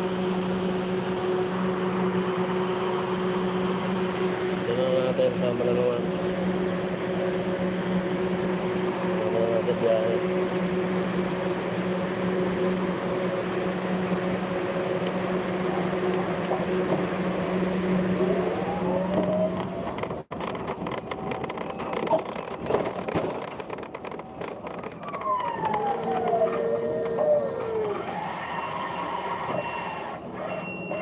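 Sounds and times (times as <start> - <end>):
forklift motor whining: 0.0 - 31.0.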